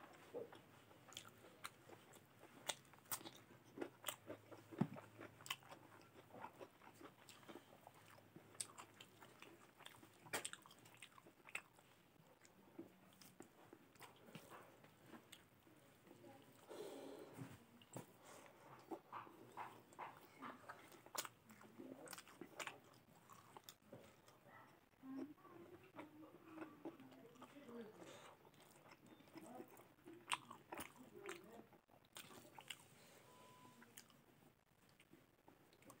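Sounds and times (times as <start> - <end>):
chewing and crunching food: 0.0 - 36.0.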